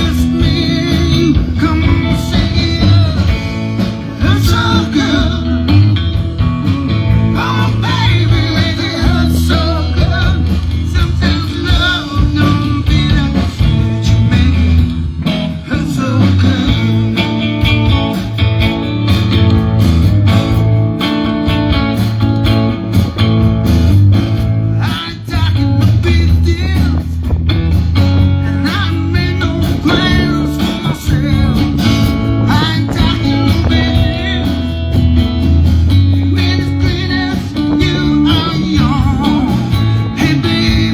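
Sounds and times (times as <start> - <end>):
bass line: 0.0 - 40.9
electric guitar: 0.0 - 40.9
live blues-rock band: 0.0 - 40.9.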